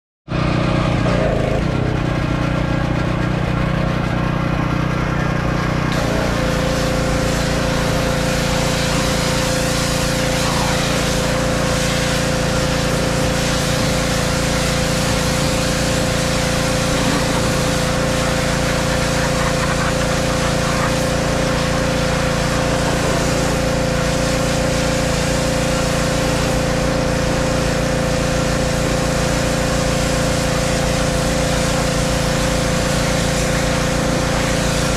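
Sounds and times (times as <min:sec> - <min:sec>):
pressure washer motor humming: 0:00.3 - 0:34.9
water spray hissing: 0:05.9 - 0:34.9.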